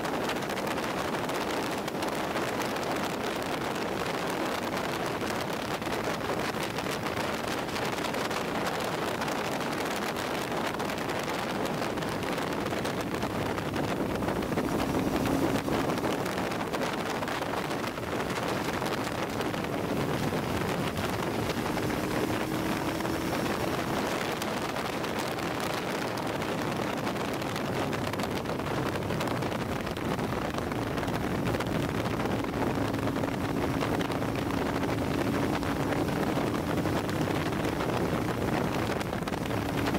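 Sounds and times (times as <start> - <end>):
wind rushing over microphone: 0.0 - 39.9
faint motorcycle engine: 2.2 - 39.9.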